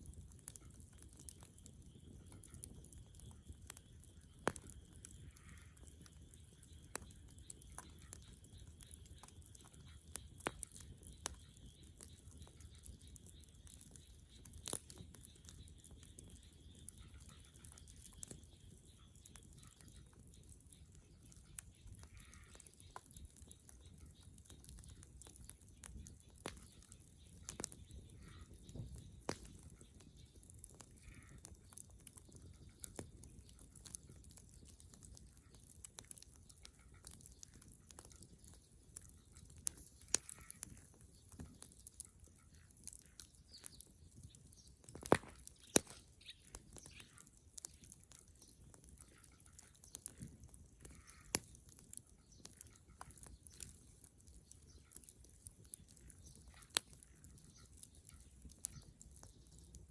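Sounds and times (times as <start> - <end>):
low rumble of flames: 0.0 - 59.9
wood crackling and popping: 0.0 - 59.9.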